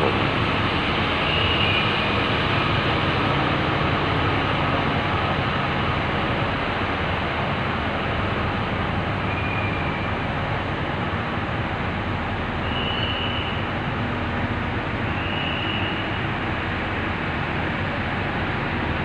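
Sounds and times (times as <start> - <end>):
rail vehicle engine running: 0.0 - 19.0.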